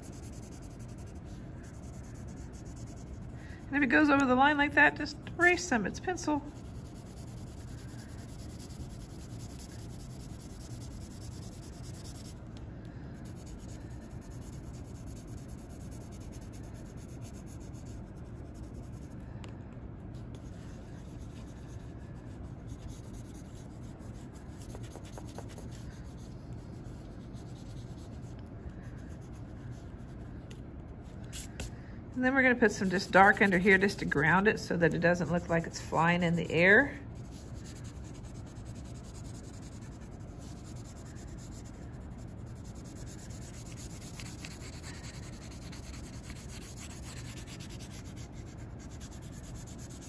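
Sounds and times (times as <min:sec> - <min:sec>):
pencil shading on paper: 0:00.0 - 0:03.7, 0:06.5 - 0:12.4, 0:13.2 - 0:19.1, 0:20.4 - 0:30.2, 0:35.0 - 0:50.0.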